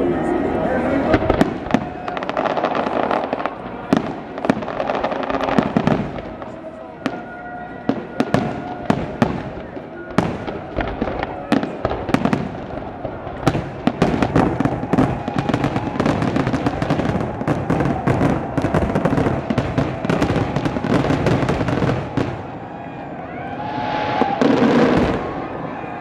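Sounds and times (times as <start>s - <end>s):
firework crackling: 0.0s - 26.0s
swell of noise: 0.0s - 26.0s.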